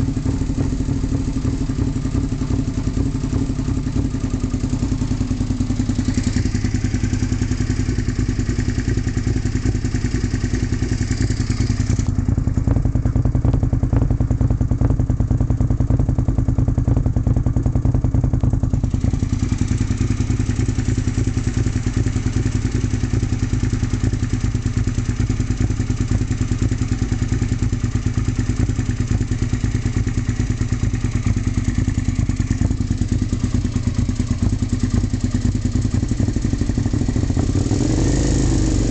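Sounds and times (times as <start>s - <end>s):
motorcycle engine rough idle: 0.0s - 38.9s.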